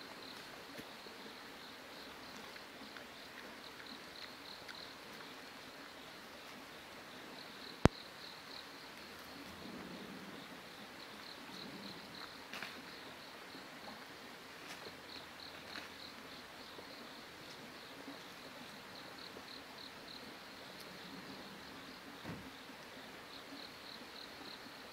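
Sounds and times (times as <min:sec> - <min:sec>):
insect chirping: 0:00.0 - 0:24.9
piglet rooting in soil: 0:00.0 - 0:24.9.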